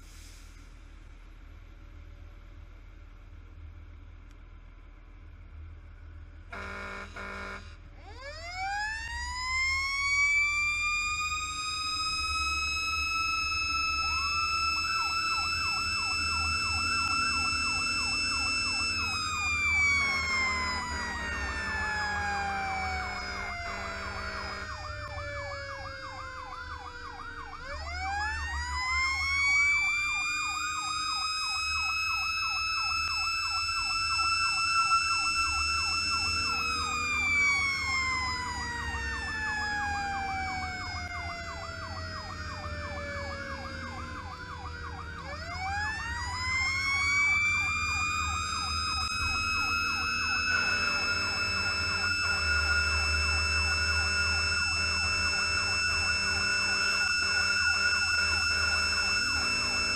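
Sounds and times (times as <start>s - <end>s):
truck rumbling on road: 0.0s - 59.9s
electronic yelp siren: 6.5s - 59.9s
wailing siren: 6.5s - 59.9s.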